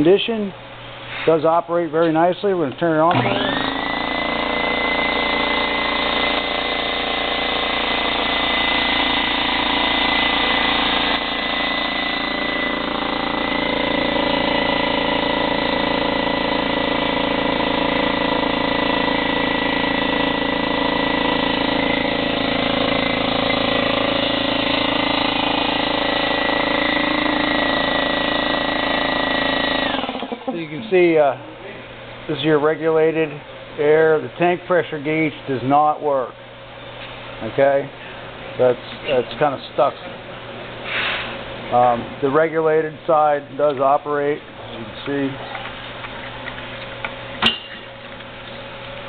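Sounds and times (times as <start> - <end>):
air compressor running: 0.0 - 49.0.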